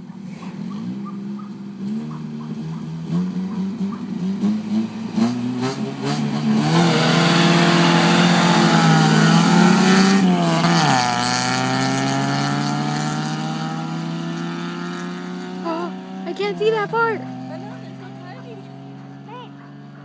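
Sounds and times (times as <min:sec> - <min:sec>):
engines revving at full throttle: 0:00.0 - 0:20.0.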